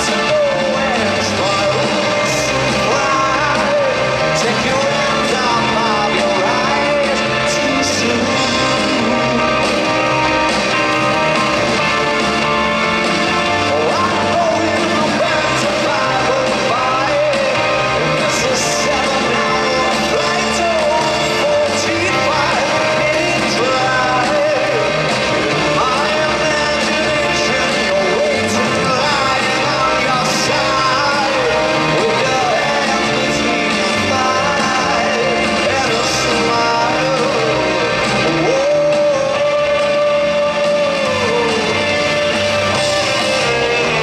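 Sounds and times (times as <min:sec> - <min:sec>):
person singing: 0:00.0 - 0:44.0
rock band playing live: 0:00.0 - 0:44.0.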